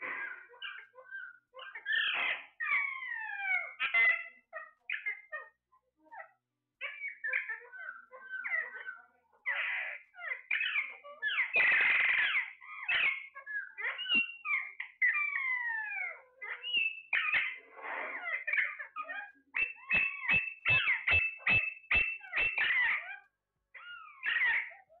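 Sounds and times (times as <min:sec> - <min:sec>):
parakeets squawking and calling: 0:00.0 - 0:25.0.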